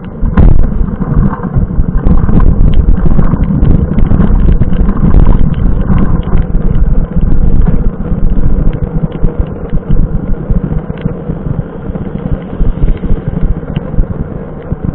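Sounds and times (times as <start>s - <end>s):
low rumble: 0.0s - 14.9s
wind buffeting microphone: 0.0s - 14.9s.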